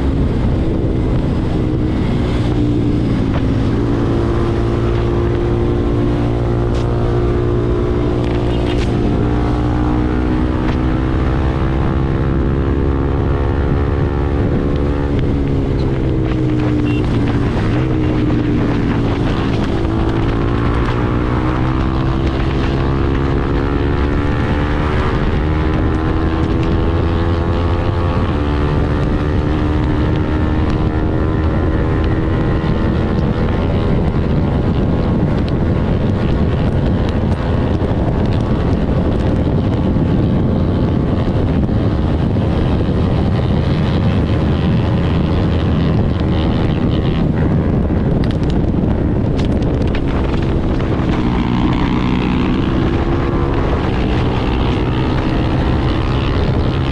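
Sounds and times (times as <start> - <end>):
motorcycle engine at high revs: 0.0 - 56.9
wind rush on microphone: 0.0 - 56.9.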